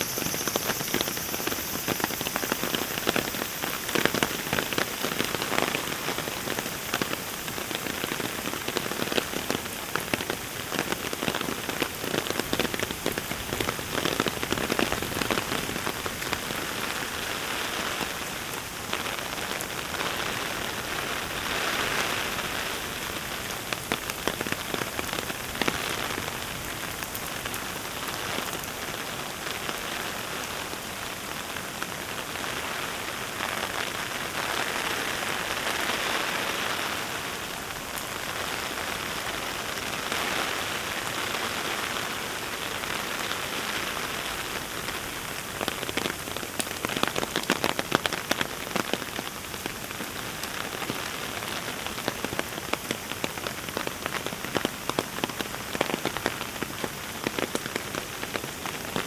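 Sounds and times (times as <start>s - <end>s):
close raindrops: 0.0s - 59.0s
heavy rain falling: 0.0s - 59.0s.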